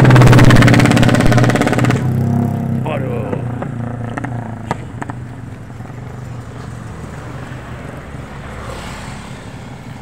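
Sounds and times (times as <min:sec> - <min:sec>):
road traffic passing: 0:00.0 - 0:10.0
vehicle passing close: 0:00.0 - 0:10.0.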